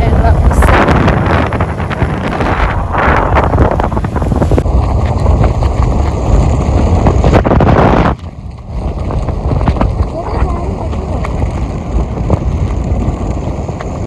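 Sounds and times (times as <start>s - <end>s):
engine and road rumble: 0.0s - 14.0s
wind buffeting microphone: 0.0s - 14.0s.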